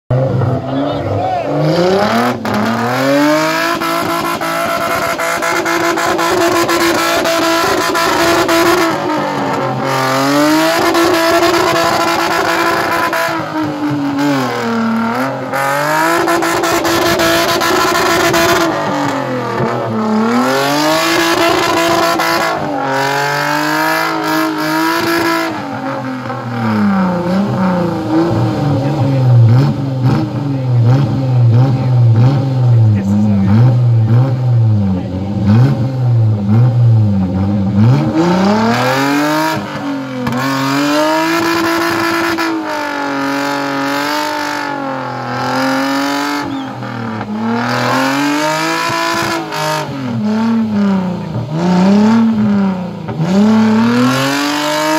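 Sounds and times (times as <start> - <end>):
engine revving hard: 0.1 - 54.9.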